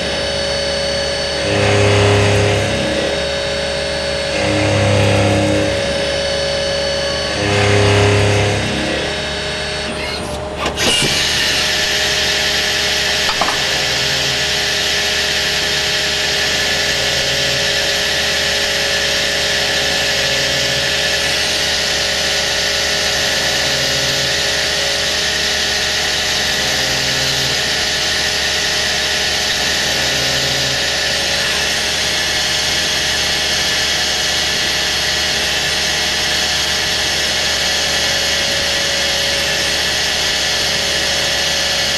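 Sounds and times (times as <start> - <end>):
lathe machining whine and hiss: 0.0 - 41.9.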